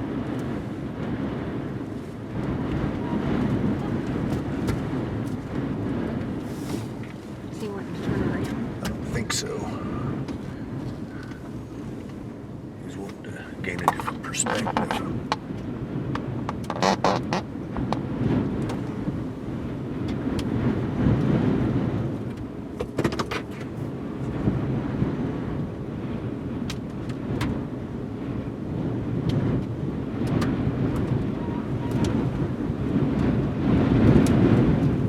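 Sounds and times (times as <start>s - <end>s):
wind buffeting a vehicle: 0.0s - 35.0s.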